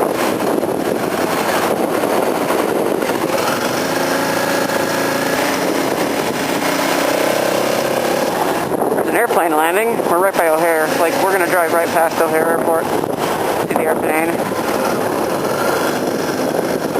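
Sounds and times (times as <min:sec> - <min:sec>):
motorcycle engine running: 0:00.0 - 0:16.9
steady rush of noise: 0:00.0 - 0:16.9.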